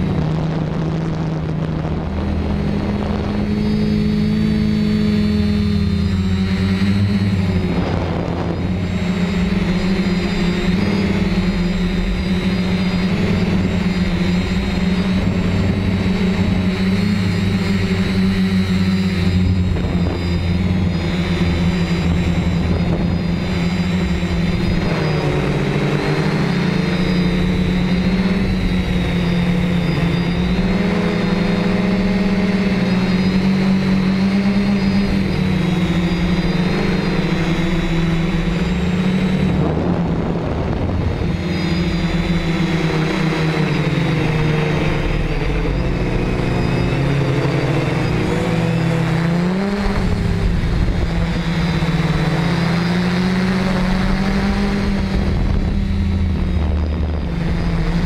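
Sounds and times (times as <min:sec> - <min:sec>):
drone motors humming: 0:00.0 - 0:58.0
wind rushing over microphone: 0:00.0 - 0:58.0.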